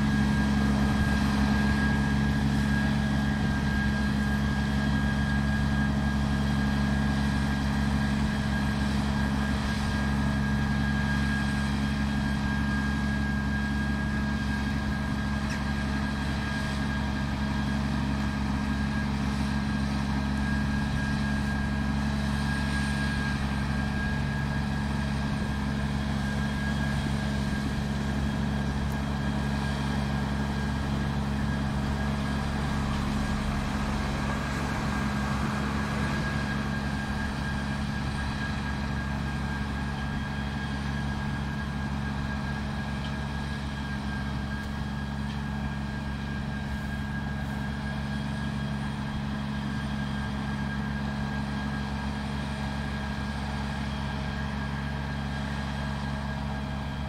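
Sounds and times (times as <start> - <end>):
diesel engines under load: 0.0 - 57.0
thin steady whine: 0.0 - 57.0.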